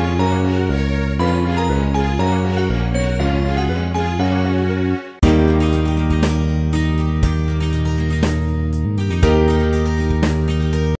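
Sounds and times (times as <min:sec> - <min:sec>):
background music with steady pulse: 0:00.0 - 0:11.0.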